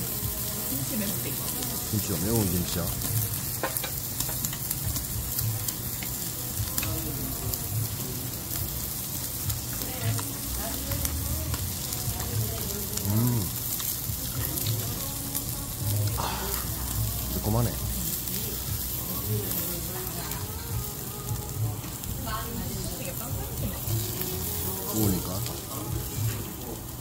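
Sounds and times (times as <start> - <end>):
meat sizzling on a grill pan: 0.0 - 27.0.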